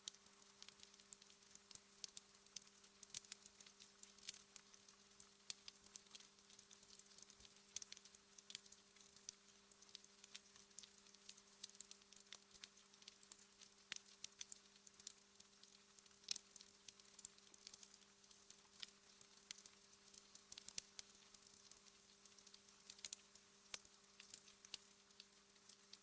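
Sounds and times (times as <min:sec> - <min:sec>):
fireplace fire crackling: 0:00.0 - 0:26.0.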